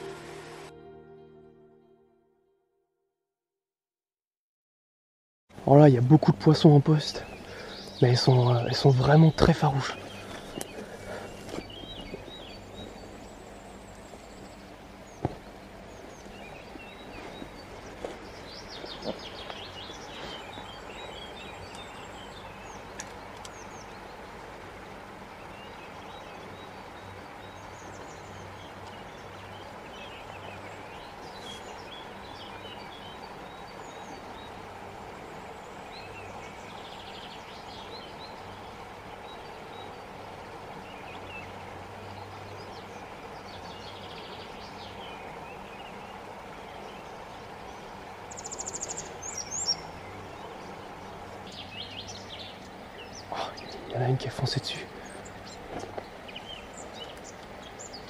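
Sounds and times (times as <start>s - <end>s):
stream water flowing: 0.0s - 1.0s, 5.5s - 58.0s
songbirds chirping: 5.5s - 58.0s.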